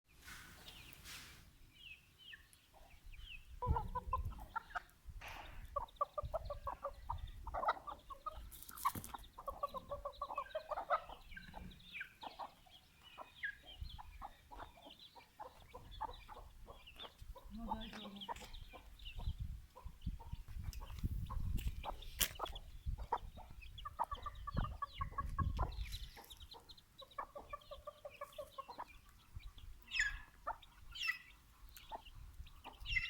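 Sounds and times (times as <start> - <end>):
chickens clucking: 2.2 - 33.0.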